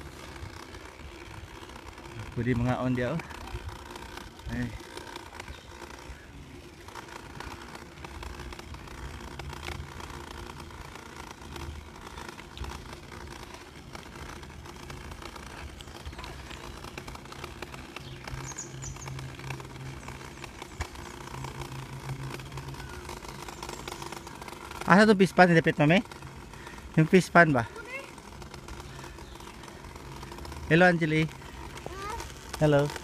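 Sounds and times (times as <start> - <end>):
bicycle tyres rolling: 0.0 - 33.0.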